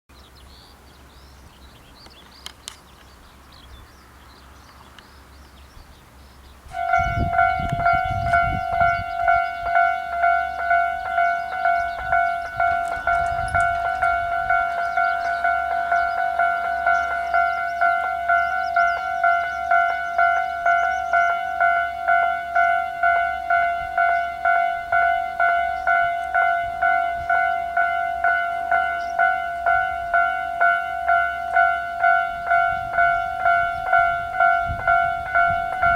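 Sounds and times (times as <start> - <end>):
faint birdsong: 0.1 - 35.9
level crossing warning bell: 6.6 - 35.9.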